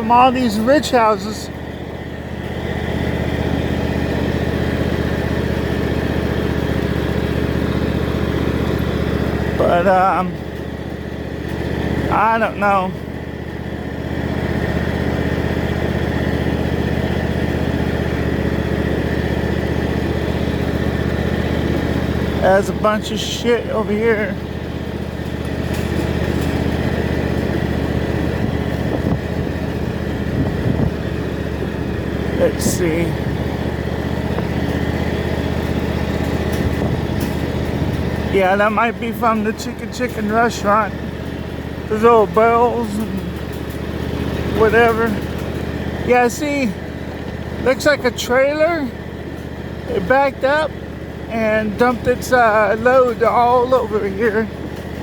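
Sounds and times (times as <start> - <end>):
small vehicle engine running: 0.0 - 55.0.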